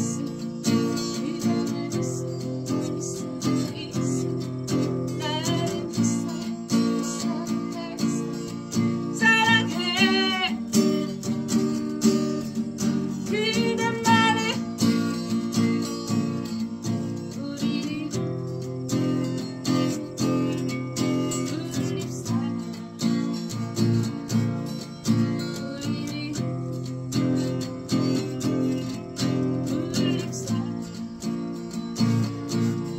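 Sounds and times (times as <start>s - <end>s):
woman singing: 0.0s - 11.6s, 12.4s - 32.9s
acoustic guitar strumming: 0.0s - 32.9s.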